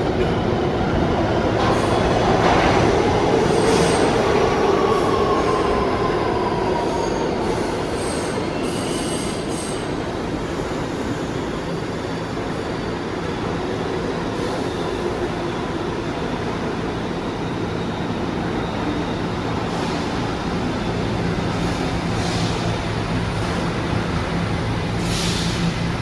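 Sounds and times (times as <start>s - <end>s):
subway train wheels roaring on rail: 0.0s - 26.0s.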